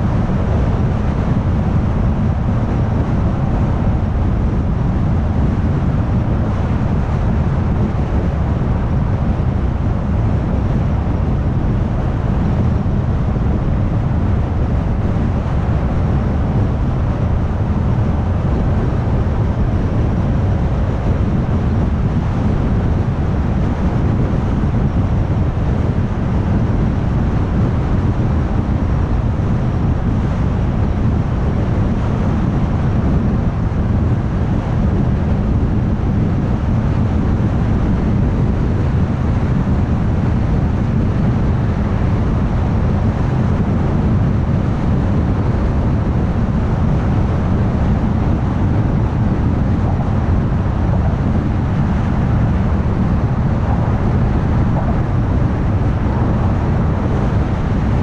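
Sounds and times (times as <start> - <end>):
car tyre and road noise: 0.0 - 58.0.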